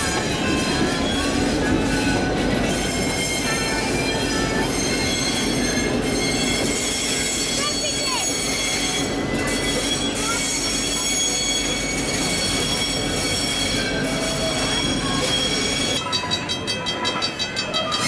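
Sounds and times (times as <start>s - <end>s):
train rumble: 0.0s - 18.0s
train wheels squealing on rails: 0.0s - 18.0s.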